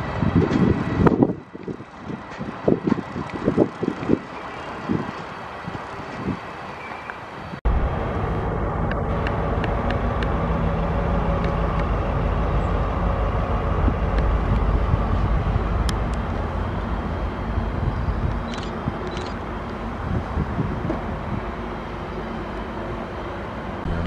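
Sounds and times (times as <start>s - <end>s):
locomotive engine rumble: 0.0s - 24.0s.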